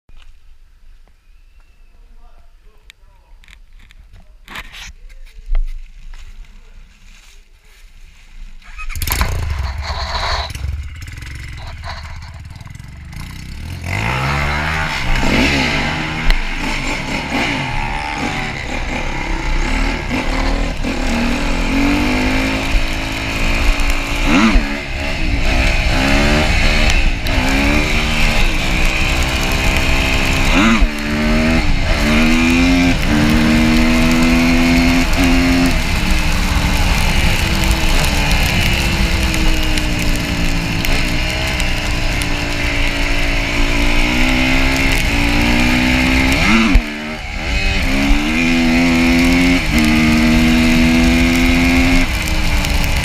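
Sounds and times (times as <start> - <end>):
dirt bike engine revving: 8.7 - 53.0.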